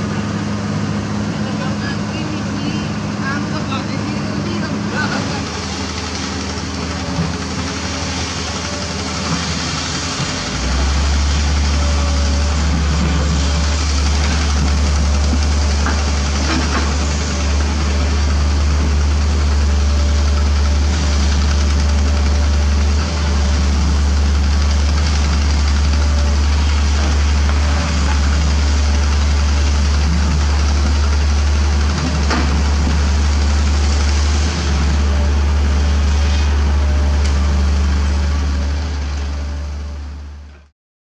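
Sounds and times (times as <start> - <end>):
excavator diesel engine drone: 0.0 - 40.7.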